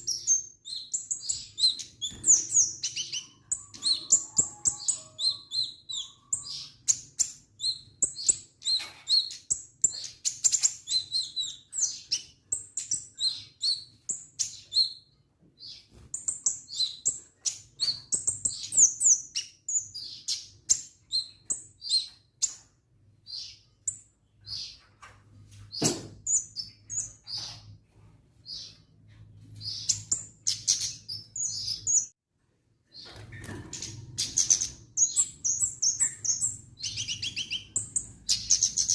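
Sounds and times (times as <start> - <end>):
songbird chirps and trills: 0.0 - 32.2, 32.8 - 38.9.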